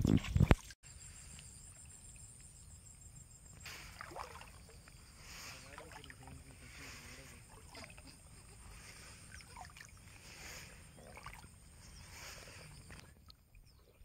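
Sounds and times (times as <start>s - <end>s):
river water being stirred: 0.0s - 13.4s.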